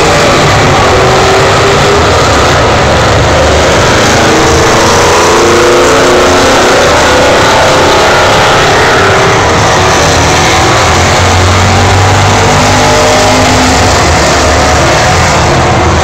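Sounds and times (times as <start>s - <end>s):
car engine revving hard: 0.0s - 16.0s.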